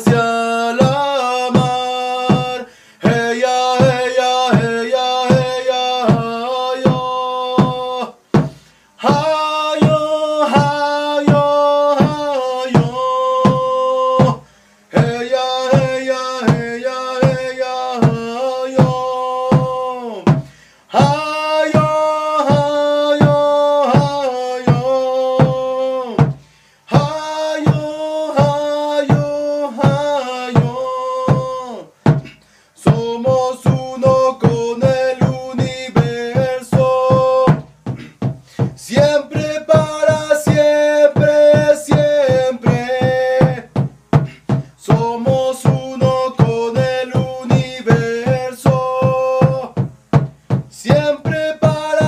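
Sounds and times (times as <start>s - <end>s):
man singing a chant: 0.0s - 52.0s
steady drum beat: 0.0s - 52.0s.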